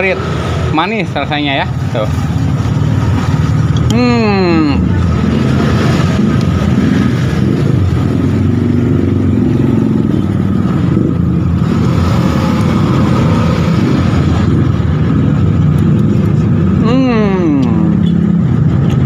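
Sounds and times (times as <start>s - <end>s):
cars and motorcycles passing: 0.0s - 19.0s.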